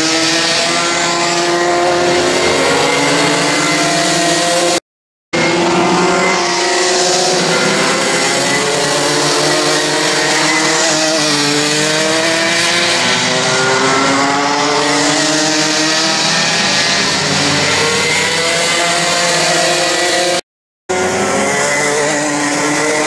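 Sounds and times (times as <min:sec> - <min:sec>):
kart engines racing: 0:00.0 - 0:04.8, 0:05.4 - 0:23.0.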